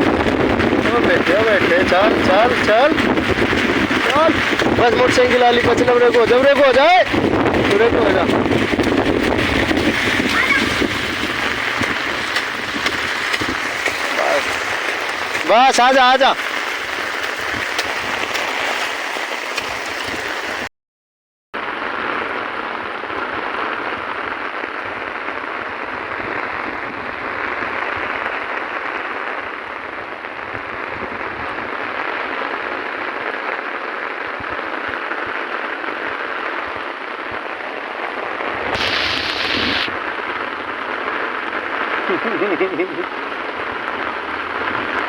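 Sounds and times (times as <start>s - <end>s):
heavy rain pouring: 0.0s - 20.7s, 21.6s - 45.0s.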